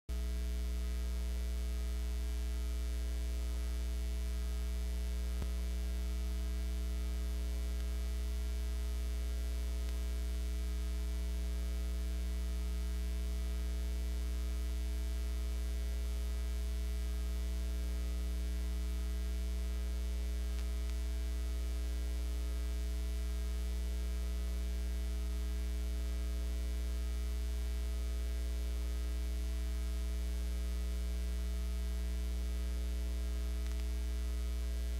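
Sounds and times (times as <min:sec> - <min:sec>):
electrical mains hum: 0:00.1 - 0:34.9.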